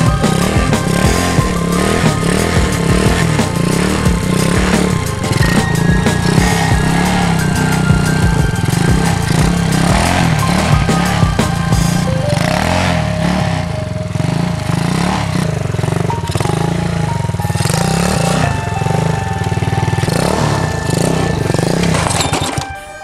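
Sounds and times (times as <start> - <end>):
motorbike engine revving: 0.0 - 22.8.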